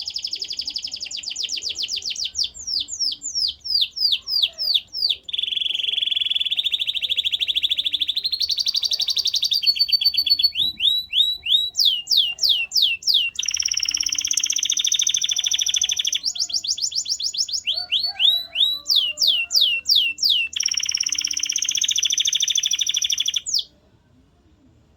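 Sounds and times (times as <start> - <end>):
canary singing trills: 0.0 - 23.8.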